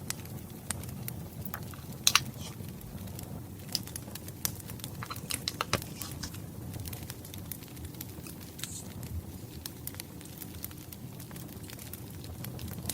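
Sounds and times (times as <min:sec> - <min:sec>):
wood fire crackling: 0:00.0 - 0:12.9.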